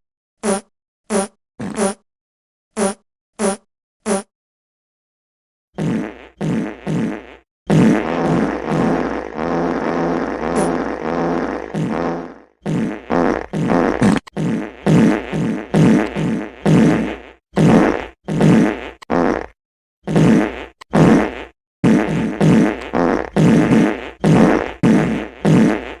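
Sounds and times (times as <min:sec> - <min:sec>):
farts: 0:00.4 - 0:02.0, 0:02.8 - 0:04.3, 0:05.8 - 0:26.0.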